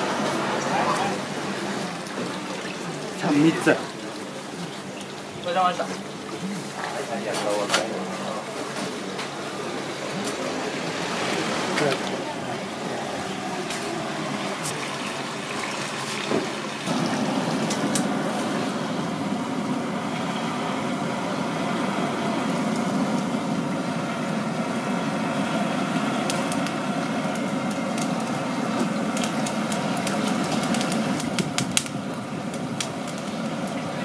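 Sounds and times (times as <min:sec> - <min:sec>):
oysters hissing on a grill: 0:00.0 - 0:34.0.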